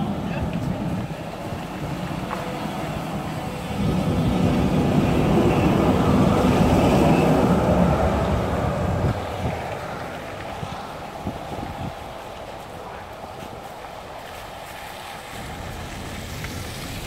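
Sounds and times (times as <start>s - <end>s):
tram rolling past: 0.0s - 17.0s.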